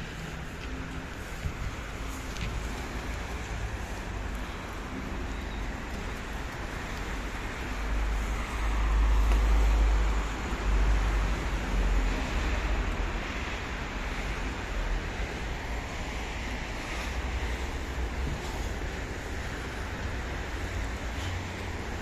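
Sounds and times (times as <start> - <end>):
low traffic rumble: 0.0 - 22.0
passing cars: 0.0 - 22.0.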